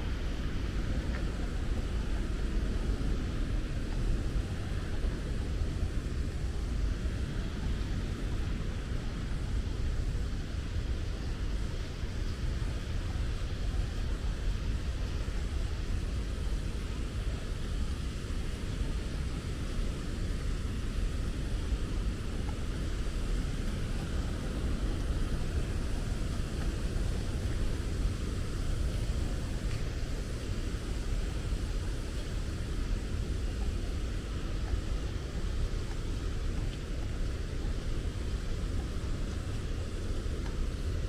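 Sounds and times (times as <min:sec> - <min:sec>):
deep continuous rumble: 0:00.0 - 0:41.0.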